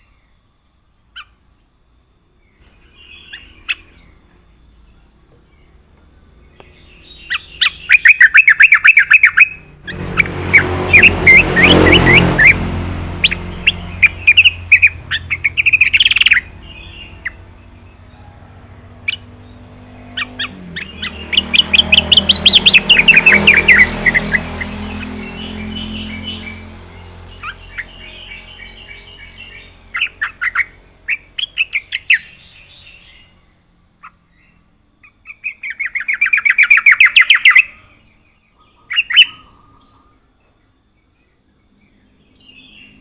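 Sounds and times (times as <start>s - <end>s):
bird singing whistled notes: 2.4s - 43.0s.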